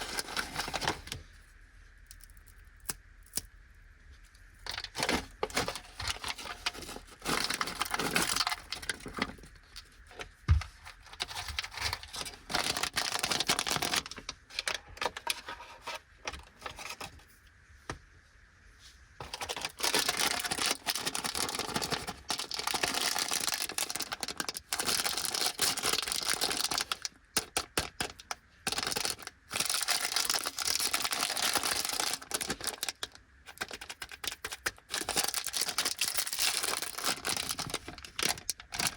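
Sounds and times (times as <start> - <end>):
plastic packaging crinkling: 0.0 - 1.2, 4.6 - 17.2, 19.2 - 38.9.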